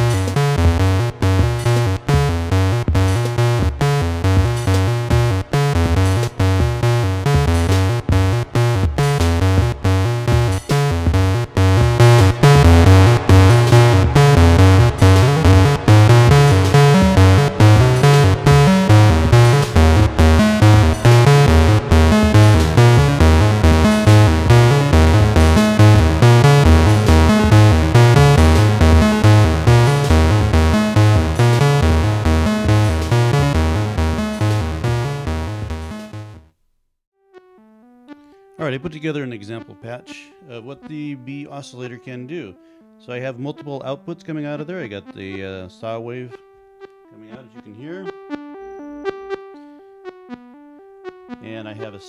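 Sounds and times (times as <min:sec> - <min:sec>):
repeating synth bass: 0:00.0 - 0:36.5, 0:43.4 - 0:52.0
sequenced synth notes: 0:00.0 - 0:36.5, 0:37.2 - 0:52.0.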